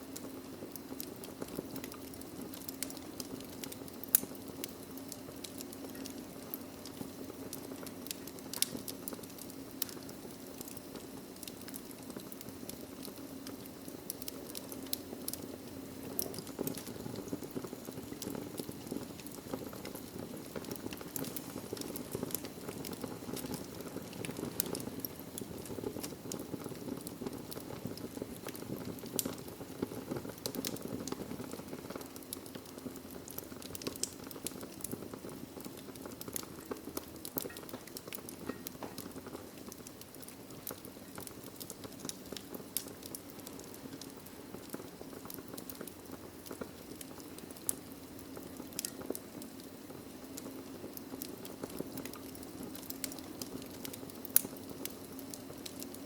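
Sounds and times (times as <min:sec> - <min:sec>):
logs crackling and popping: 0:00.0 - 0:56.0
fire flames rushing: 0:00.2 - 0:56.0.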